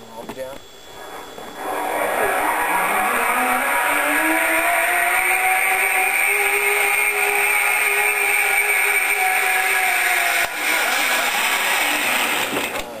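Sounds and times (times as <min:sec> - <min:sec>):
zipline pulleys whining: 0:01.0 - 0:12.8.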